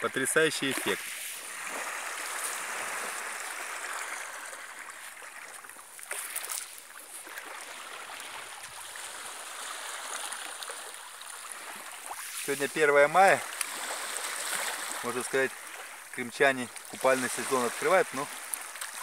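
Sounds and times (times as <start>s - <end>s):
small waves washing on shore: 0.0s - 19.0s.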